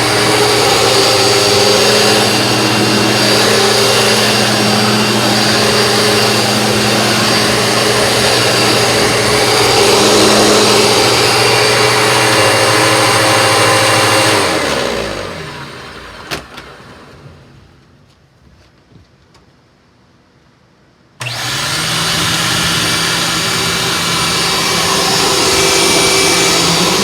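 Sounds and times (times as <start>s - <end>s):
vacuum cleaner motor running: 0.0s - 17.3s, 21.2s - 27.0s.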